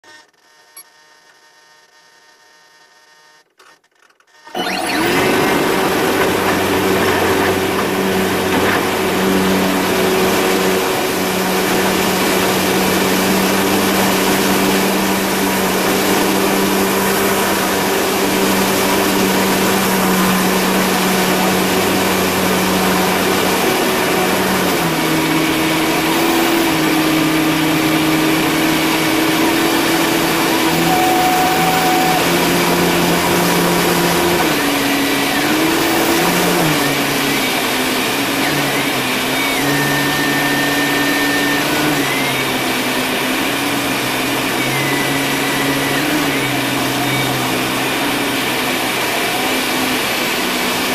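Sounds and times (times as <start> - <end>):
aircraft engine and propeller: 4.6 - 50.9.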